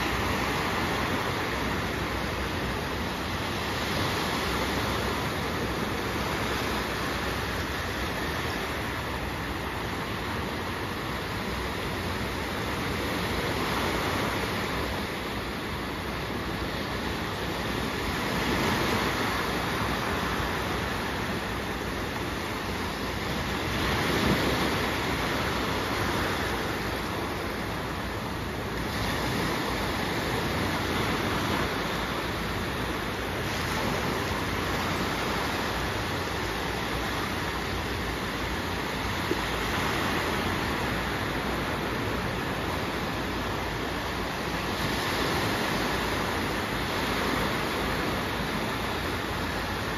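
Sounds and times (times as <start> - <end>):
waves washing on shore: 0.0 - 49.9.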